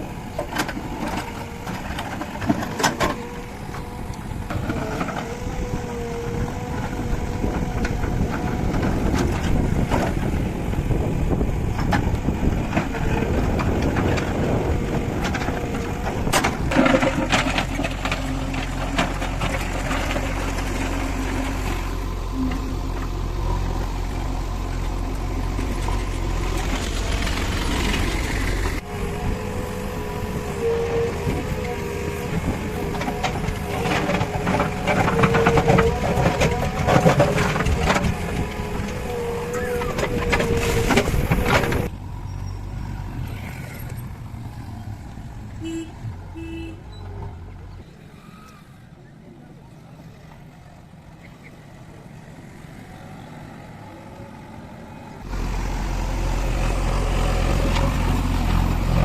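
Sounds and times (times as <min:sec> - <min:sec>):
backhoe engine rumbling: 0:00.0 - 0:59.0.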